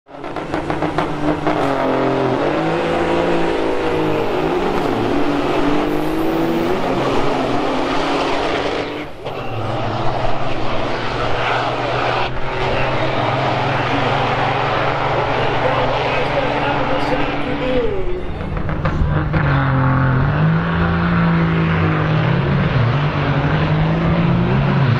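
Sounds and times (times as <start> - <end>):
diesel truck engines running: 0.1 - 24.9.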